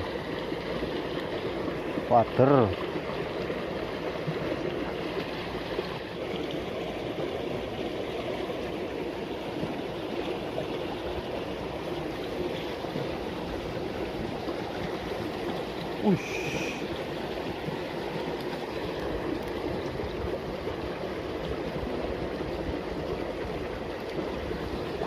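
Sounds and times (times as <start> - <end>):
water rushing and gurgling: 0.0 - 25.0.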